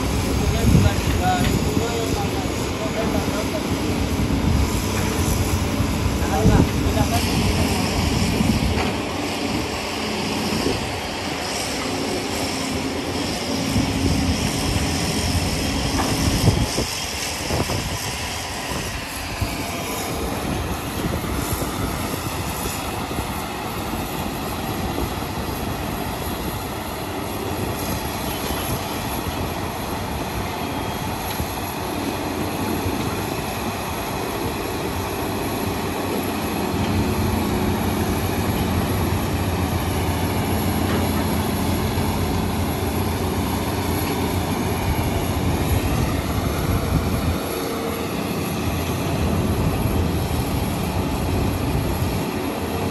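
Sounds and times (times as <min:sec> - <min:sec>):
diesel engines running: 0:00.0 - 0:52.9.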